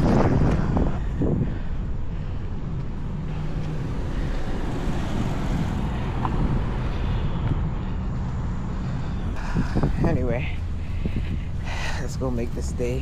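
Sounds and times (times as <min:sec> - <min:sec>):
car engines passing: 0:00.0 - 0:13.0.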